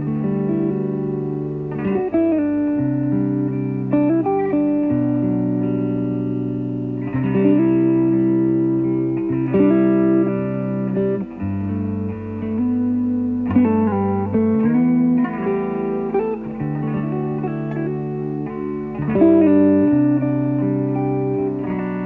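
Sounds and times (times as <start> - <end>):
guitar piece with bass line: 0.0 - 22.0.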